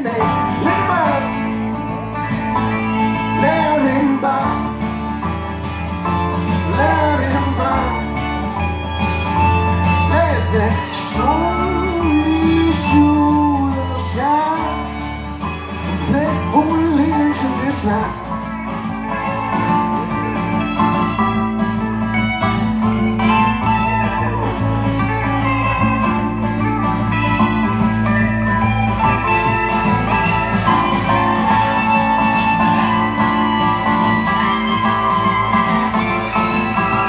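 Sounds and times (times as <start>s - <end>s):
acoustic guitar: 0.0s - 37.0s
keyboard chords: 0.0s - 37.0s
pedal steel guitar sliding notes: 0.0s - 37.0s.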